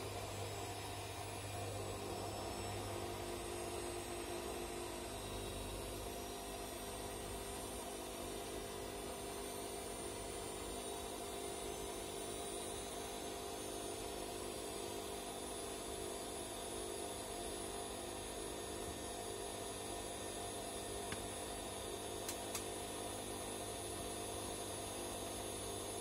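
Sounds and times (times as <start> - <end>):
washing machine humming: 0.0 - 10.2, 12.1 - 26.0.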